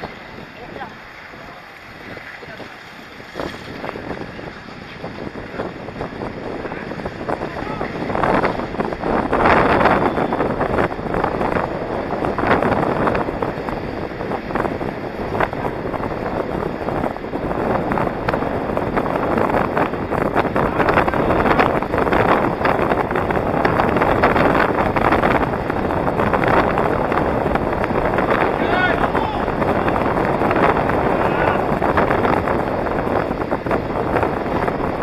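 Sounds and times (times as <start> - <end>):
skate wheels rolling on asphalt: 0.0 - 35.0
wind rushing over microphone: 0.0 - 35.0.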